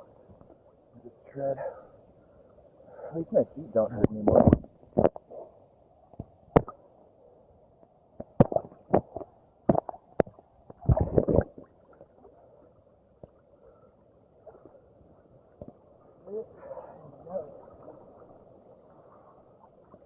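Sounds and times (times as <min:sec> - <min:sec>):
muffled water sloshing and gurgling: 0:00.0 - 0:20.0.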